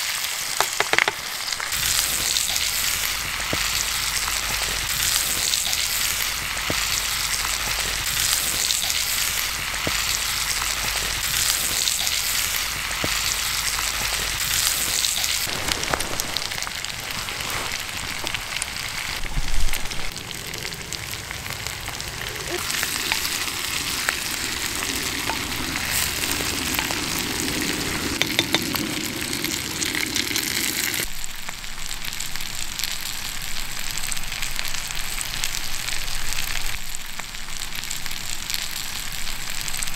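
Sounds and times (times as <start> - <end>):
food sizzling with pops: 0.0 - 39.9.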